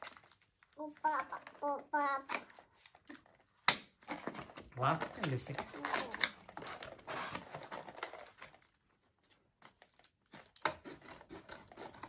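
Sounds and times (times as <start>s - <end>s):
cardboard and plastic packaging rustling: 0.0s - 12.0s.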